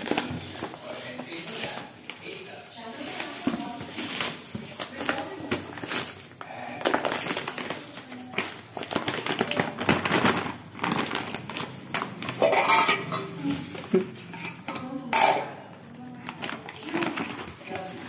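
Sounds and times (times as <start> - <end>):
plastic pouch crinkling: 0.0 - 14.0, 16.0 - 18.0
bubble wrap crackling: 0.0 - 14.6, 15.8 - 18.0.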